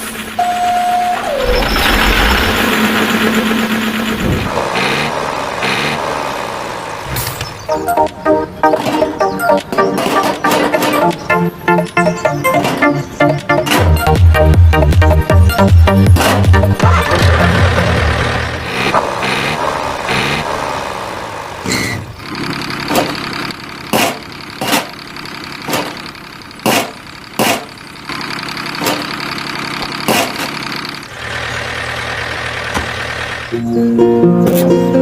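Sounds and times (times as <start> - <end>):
engine idling: 0.0 - 33.7.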